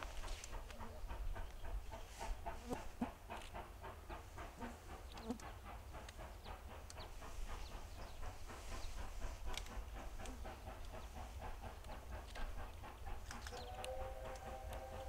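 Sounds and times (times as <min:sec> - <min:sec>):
steam locomotive exhaust chuffs: 0:00.0 - 0:15.0.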